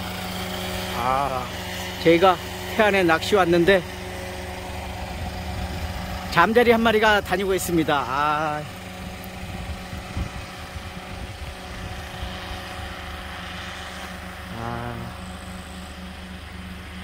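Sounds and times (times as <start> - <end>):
helicopter engine and rotor droning: 0.0 - 17.0.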